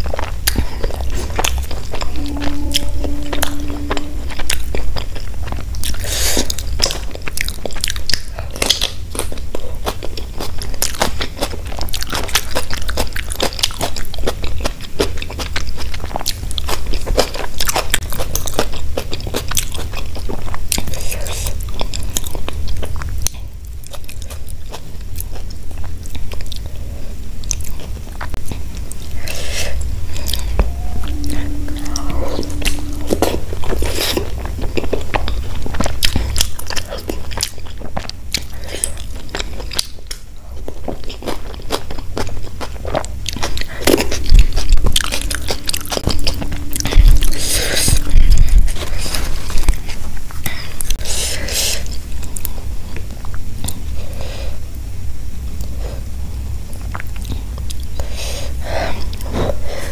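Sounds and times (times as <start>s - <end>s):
chewing and crunching: 0.0s - 2.9s, 4.3s - 54.2s, 55.5s - 59.9s
steady low hum: 0.0s - 59.9s.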